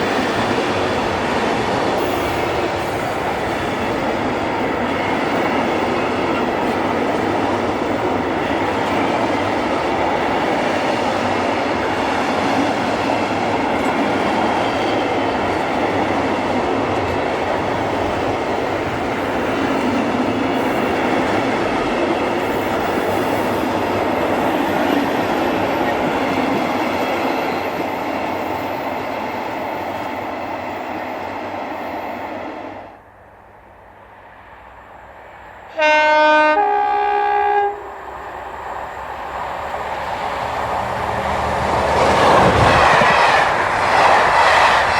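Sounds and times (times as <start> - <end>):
train wheels on rails: 0.0 - 44.9.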